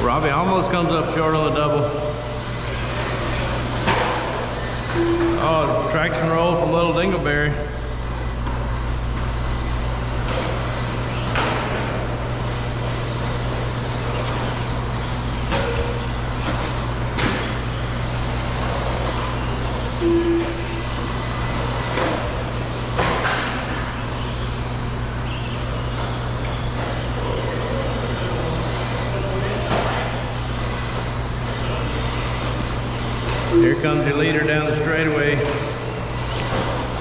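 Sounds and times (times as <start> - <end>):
rc trucks humming: 0.0 - 37.0.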